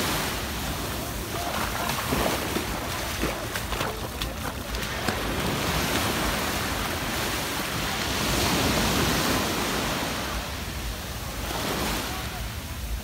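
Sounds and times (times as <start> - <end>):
surf washing up a sandy beach: 0.0 - 13.0.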